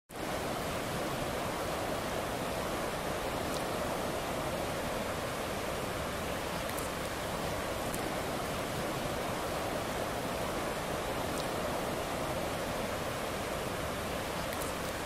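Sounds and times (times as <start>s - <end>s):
river water rushing over rapids: 0.1s - 15.0s.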